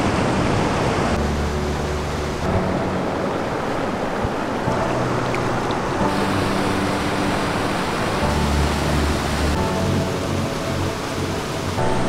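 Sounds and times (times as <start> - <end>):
soft music of held chords: 0.0 - 12.0
stream rushing over boulders: 0.0 - 12.0.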